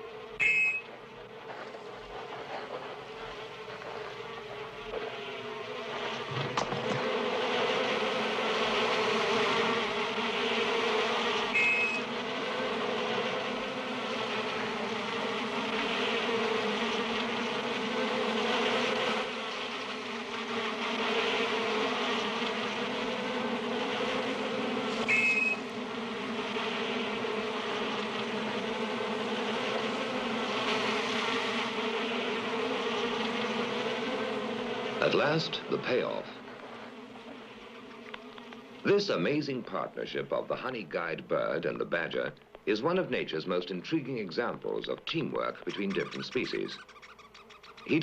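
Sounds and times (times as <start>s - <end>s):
bees buzzing: 0.0s - 48.0s.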